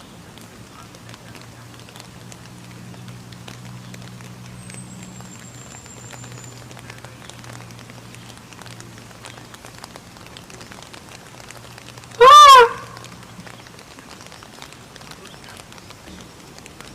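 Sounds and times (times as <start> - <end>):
rain drops pattering: 0.0 - 16.9.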